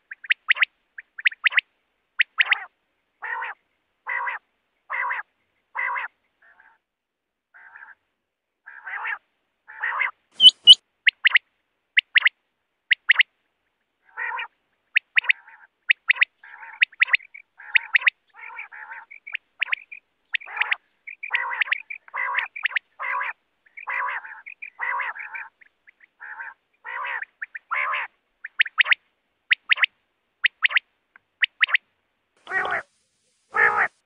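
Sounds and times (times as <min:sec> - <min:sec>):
quail calling: 0:00.0 - 0:06.8, 0:07.6 - 0:08.0, 0:08.7 - 0:11.4, 0:14.0 - 0:30.8, 0:31.4 - 0:31.8, 0:32.4 - 0:32.9, 0:33.5 - 0:34.0.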